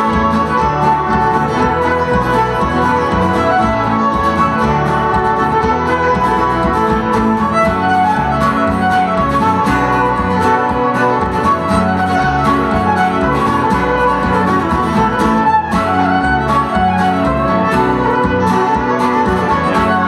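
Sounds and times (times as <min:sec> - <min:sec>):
fiddle melody: 0:00.0 - 0:20.0
mandolin: 0:00.0 - 0:20.0
plucked guitar: 0:00.0 - 0:20.0.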